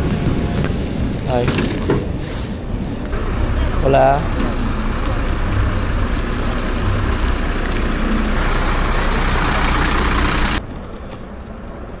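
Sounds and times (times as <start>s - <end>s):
motor vehicle rumble and hiss: 2.1s - 11.9s.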